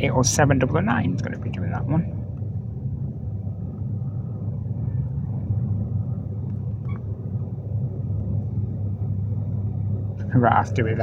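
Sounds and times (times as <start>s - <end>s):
electric train rumbling at speed: 0.0s - 11.0s.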